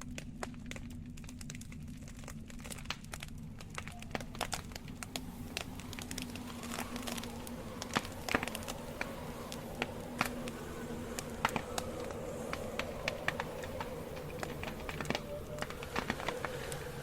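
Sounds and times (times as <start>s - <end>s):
campfire crackling: 0.0s - 17.0s
faint steady hum: 0.0s - 17.0s
sharp pops and snaps of logs: 0.0s - 17.0s.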